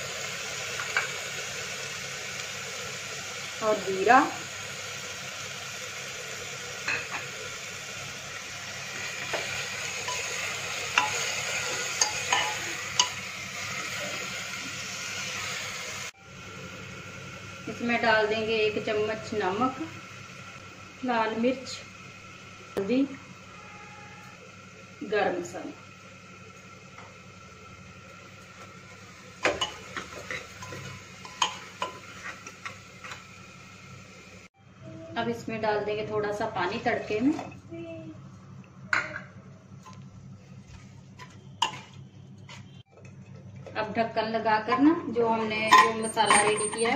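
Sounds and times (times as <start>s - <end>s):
food sizzling in oil: 0.0s - 34.5s, 35.3s - 42.9s.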